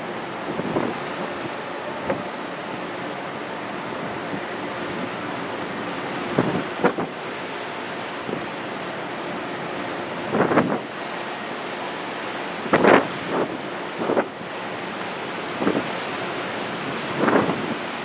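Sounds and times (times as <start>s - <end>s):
wind and sea rushing: 0.0s - 18.0s
wind surges on microphone: 0.0s - 18.0s.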